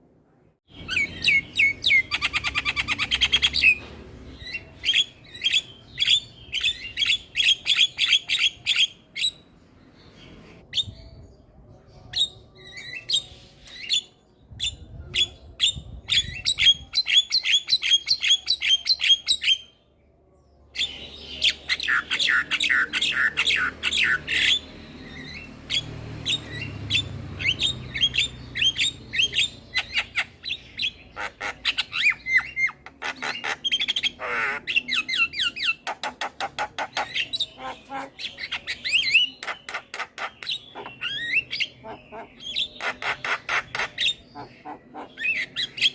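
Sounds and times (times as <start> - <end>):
myna chirping: 0.7 - 19.9, 20.6 - 45.9.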